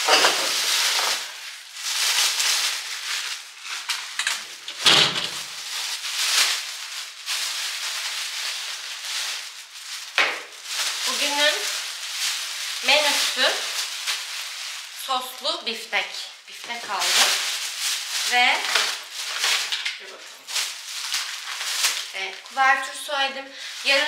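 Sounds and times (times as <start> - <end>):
plastic bags rustling: 0.0 - 24.0.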